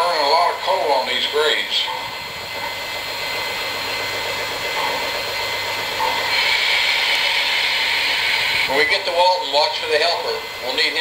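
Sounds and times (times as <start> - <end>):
steam hiss: 0.0 - 11.0.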